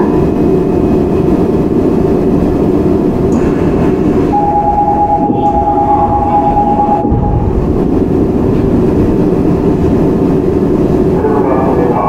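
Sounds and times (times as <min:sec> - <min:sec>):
steady high whine: 0:00.0 - 0:12.0
subway train wheels rumbling: 0:00.0 - 0:12.0.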